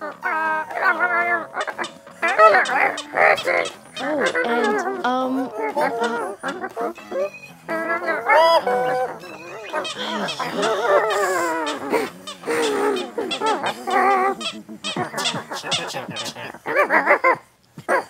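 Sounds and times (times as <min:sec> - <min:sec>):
warbling comic voice: 0:00.0 - 0:16.7.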